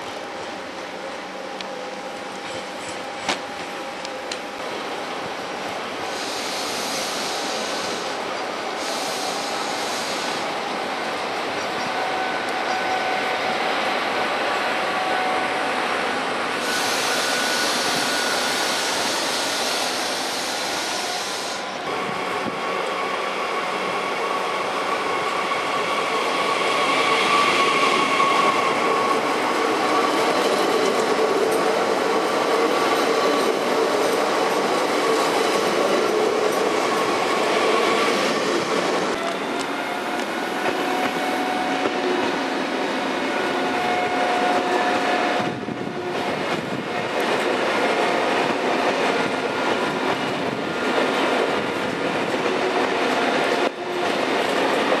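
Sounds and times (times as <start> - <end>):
passenger coaches rolling past: 0.0 - 55.0
train passing close by: 0.0 - 55.0
train pulling in: 0.0 - 55.0.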